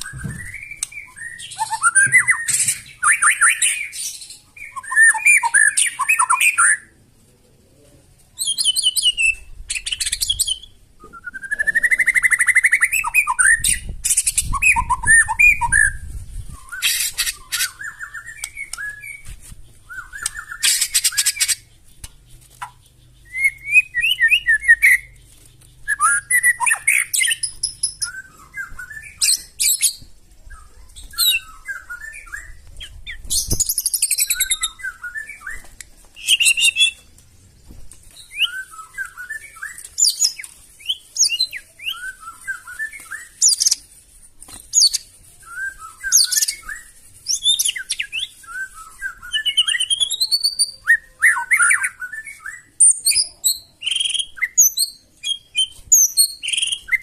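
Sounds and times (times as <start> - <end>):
songbird singing: 0.0 - 44.0, 44.6 - 57.0.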